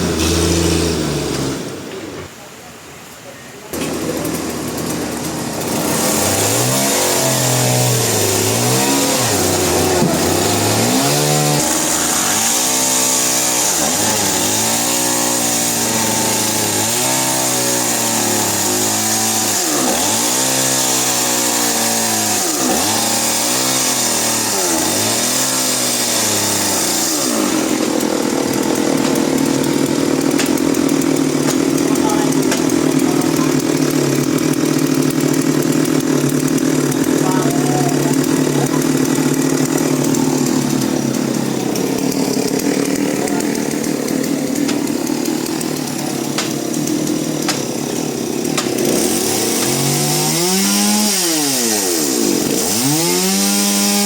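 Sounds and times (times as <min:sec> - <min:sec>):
motor saw running: 0:00.0 - 0:02.2, 0:03.8 - 0:54.0.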